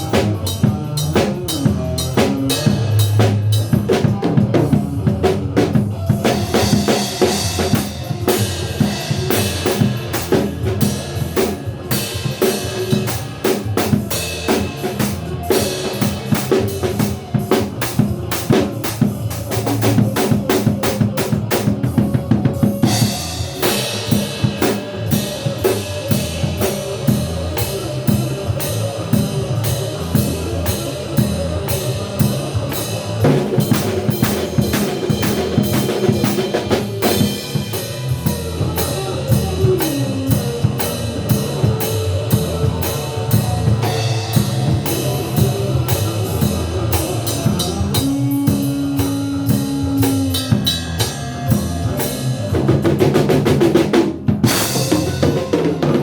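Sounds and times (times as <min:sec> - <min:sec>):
drum kit played fast: 0:00.0 - 0:56.0
rock band backing track: 0:00.0 - 0:56.0.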